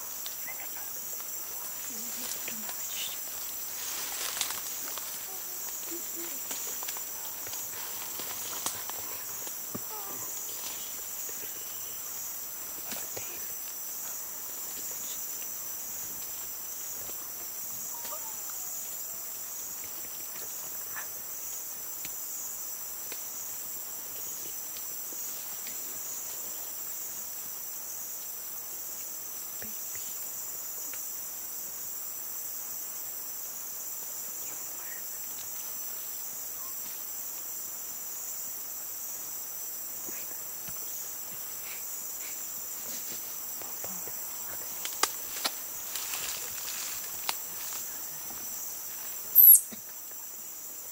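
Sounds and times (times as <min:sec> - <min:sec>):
insect chorus trilling: 0:00.0 - 0:50.9.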